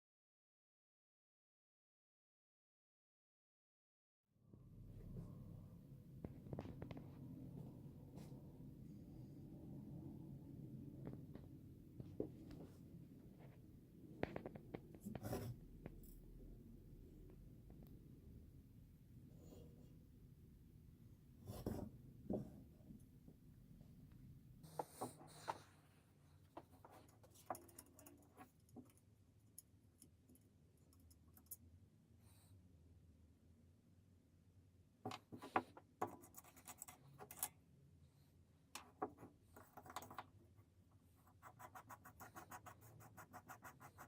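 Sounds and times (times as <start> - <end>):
faint low hum: 4.4 - 44.0.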